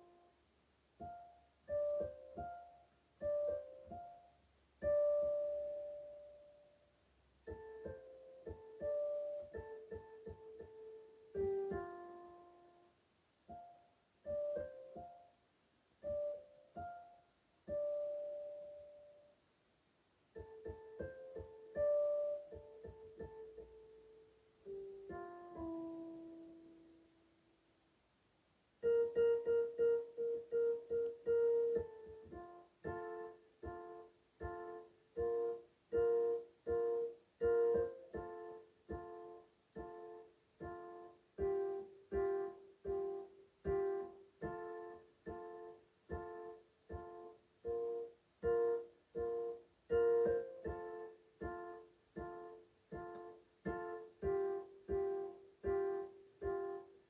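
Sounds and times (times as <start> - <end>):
electronic keyboard piano chords: 1.0 - 6.8, 7.4 - 12.9, 13.5 - 15.4, 16.0 - 19.3, 20.3 - 26.9, 28.8 - 57.0.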